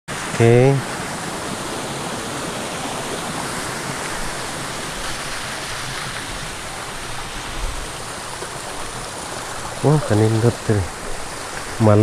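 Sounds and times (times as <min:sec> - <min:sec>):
small waterfall rushing: 0:00.1 - 0:12.0.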